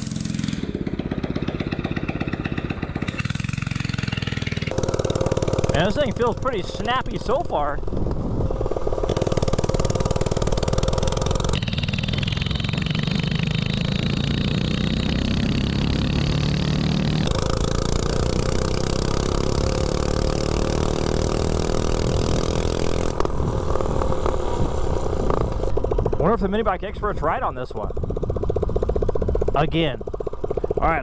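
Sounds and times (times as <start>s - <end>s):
small engine running without exhaust: 0.0s - 31.0s.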